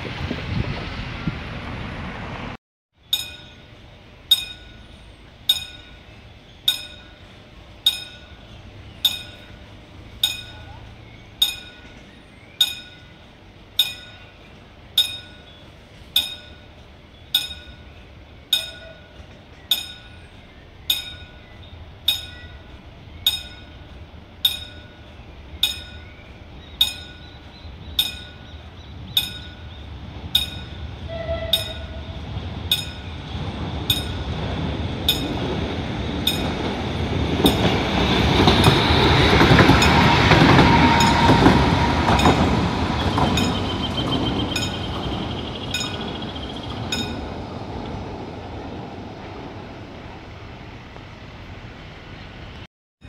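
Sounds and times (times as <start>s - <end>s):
tram rumble: 0.0s - 52.7s.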